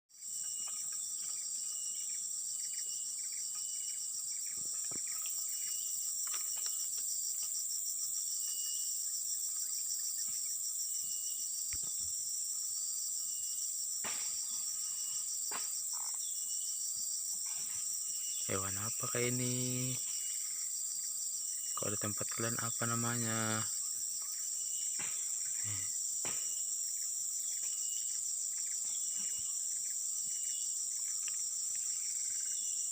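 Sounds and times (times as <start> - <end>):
insects trilling: 0.1 - 32.9.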